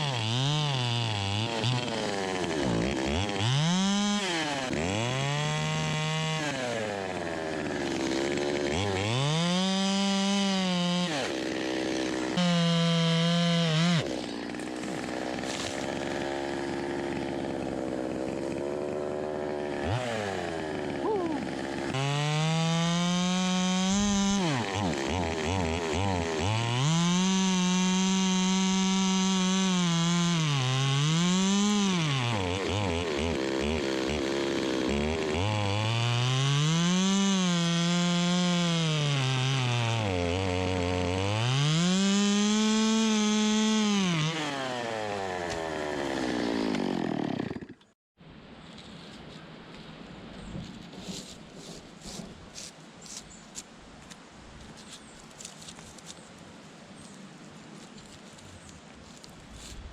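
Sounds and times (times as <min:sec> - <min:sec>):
chainsaw revving: 0:00.0 - 0:48.0.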